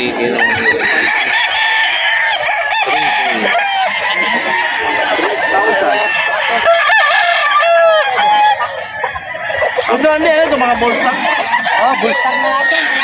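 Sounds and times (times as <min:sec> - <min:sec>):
roosters crowing and clucking: 0:00.0 - 0:13.0.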